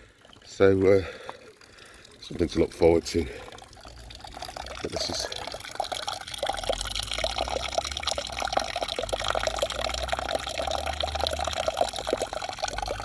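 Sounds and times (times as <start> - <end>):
spring water trickling: 0.0 - 13.0.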